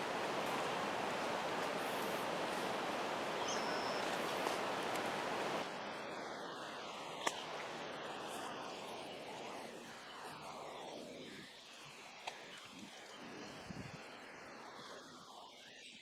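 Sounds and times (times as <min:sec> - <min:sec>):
steady background hiss: 0:00.0 - 0:15.5.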